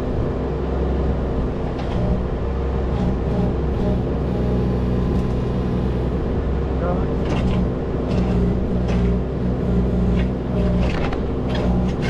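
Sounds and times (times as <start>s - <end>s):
machine engine rumbling: 0.0s - 12.0s.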